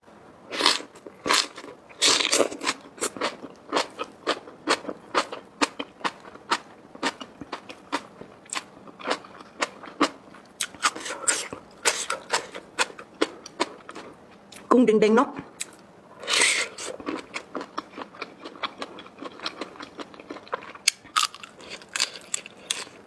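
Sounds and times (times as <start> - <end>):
person chewing crunchy food: 0.5 - 14.6, 15.6 - 23.0.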